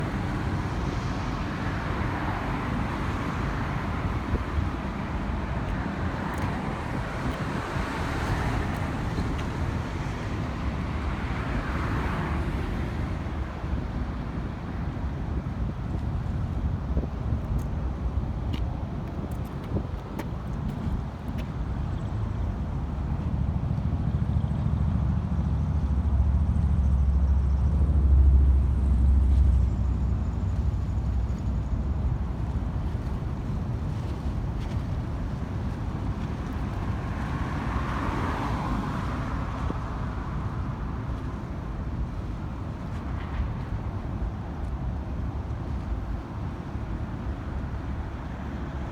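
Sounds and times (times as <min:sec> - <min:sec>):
rumble of passing vehicles: 0:00.0 - 0:48.9.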